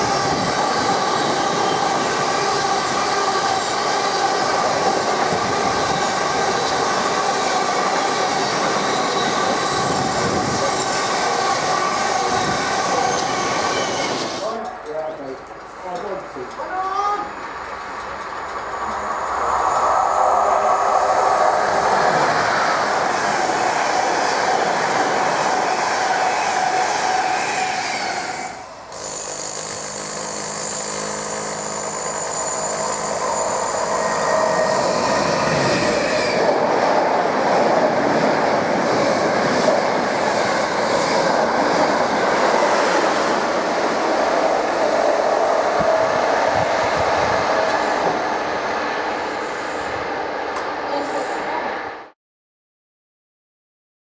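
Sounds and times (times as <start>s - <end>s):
train wheels rumbling on rails: 0.0s - 51.5s.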